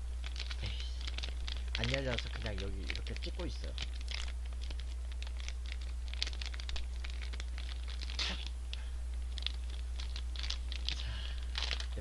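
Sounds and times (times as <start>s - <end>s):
steady low hum: 0.0s - 12.0s
plastic wrapper crinkling and tearing: 0.2s - 12.0s.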